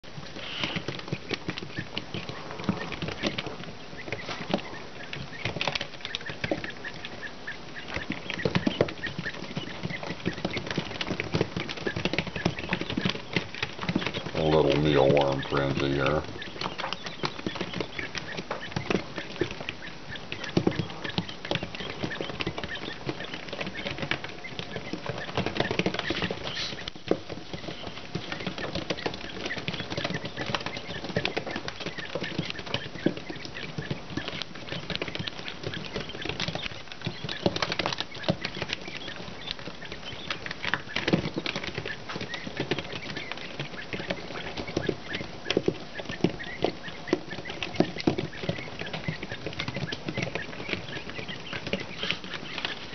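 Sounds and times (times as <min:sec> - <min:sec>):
chicks pecking and scratching: 0:00.0 - 0:52.9
chick calls: 0:00.1 - 0:52.9.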